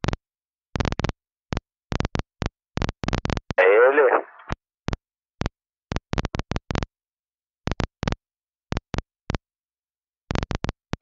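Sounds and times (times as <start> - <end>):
radio static clicks and crackles: 0.0 - 6.9, 7.7 - 9.4, 10.3 - 11.0.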